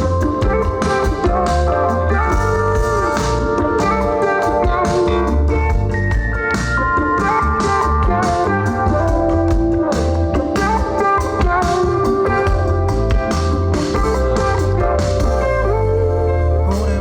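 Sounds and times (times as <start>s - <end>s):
drums: 0.0s - 17.0s
electric guitar: 0.0s - 17.0s
pulsing low bass line: 0.0s - 17.0s.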